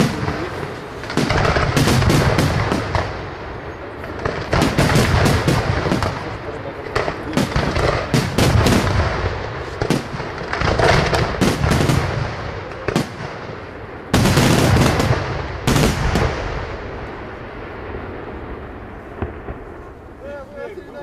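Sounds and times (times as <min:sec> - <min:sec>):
fireworks bursting with sharp bangs: 0:00.0 - 0:21.0
fireworks rumble: 0:00.0 - 0:21.0.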